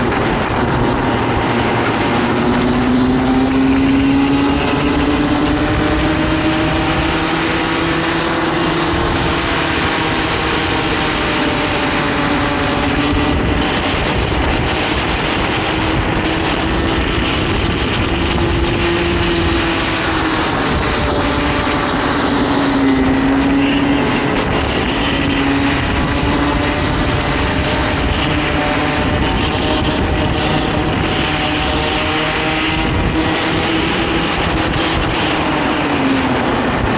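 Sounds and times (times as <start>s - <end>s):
kart engine running hard: 0.0s - 36.9s
wind and road noise: 0.0s - 36.9s.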